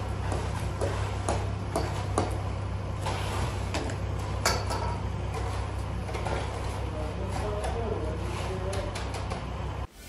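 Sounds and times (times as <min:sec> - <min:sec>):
knocks and scrapes: 0:00.0 - 0:09.5
engine humming: 0:00.0 - 0:09.9.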